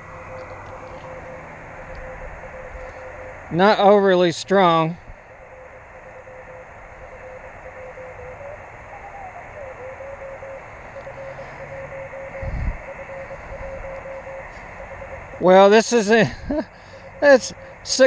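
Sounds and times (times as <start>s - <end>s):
faint whistling beacon tone: 0.0s - 4.5s, 5.1s - 18.0s
radio receiver hiss: 0.0s - 18.0s.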